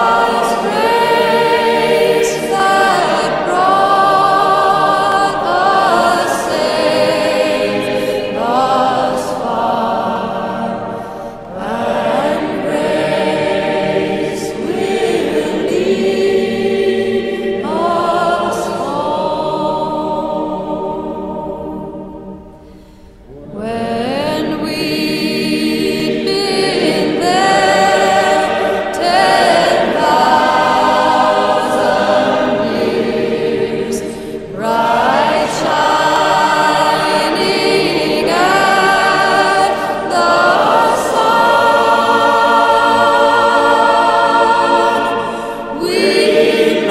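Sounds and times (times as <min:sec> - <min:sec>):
choir singing sustained chords: 0:00.0 - 0:46.9.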